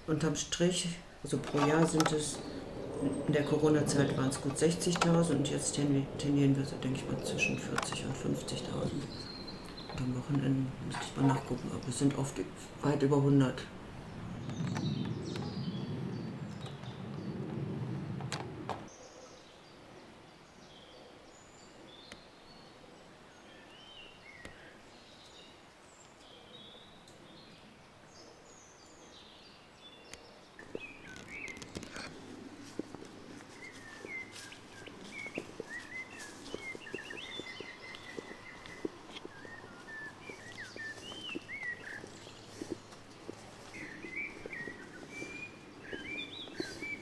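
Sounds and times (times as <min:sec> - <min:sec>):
low outdoor hush: 0:00.0 - 0:47.0
songbirds chirping: 0:00.0 - 0:47.0.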